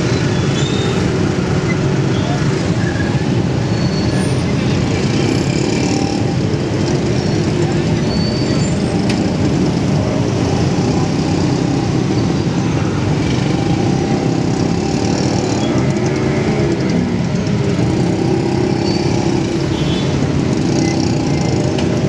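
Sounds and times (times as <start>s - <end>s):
small engines running in traffic: 0.0s - 22.0s.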